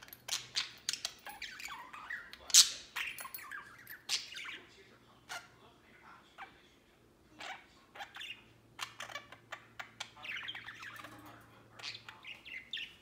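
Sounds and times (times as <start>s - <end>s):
budgerigars chirping: 0.0s - 5.5s, 7.4s - 13.0s.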